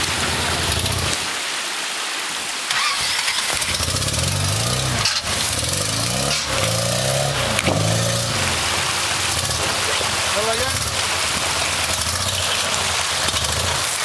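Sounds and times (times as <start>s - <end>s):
truck engine revving: 2.7s - 14.0s.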